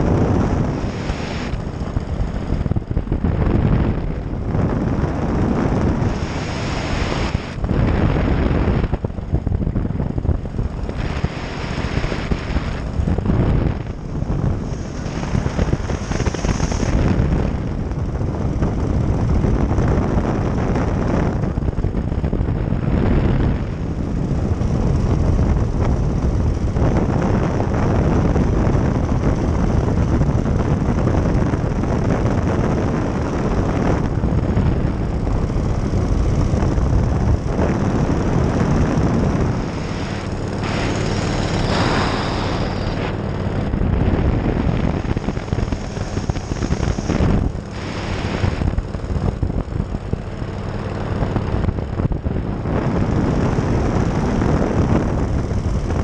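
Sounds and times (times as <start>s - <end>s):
engine and propeller roar: 0.0s - 56.0s.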